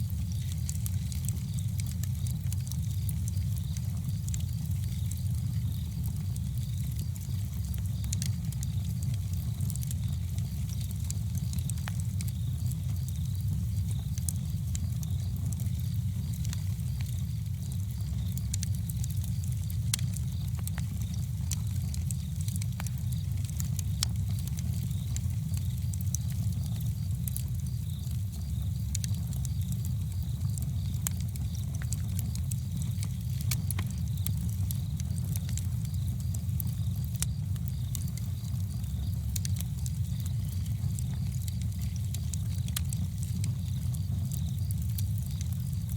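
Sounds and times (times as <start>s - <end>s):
campfire crackling and popping: 0.0s - 45.9s
fire low rumble: 0.0s - 45.9s.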